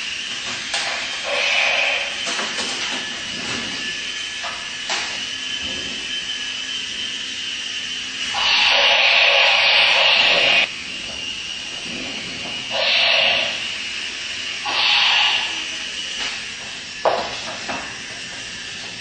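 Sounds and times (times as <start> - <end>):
toy helicopter rotors whirring: 0.0 - 19.0.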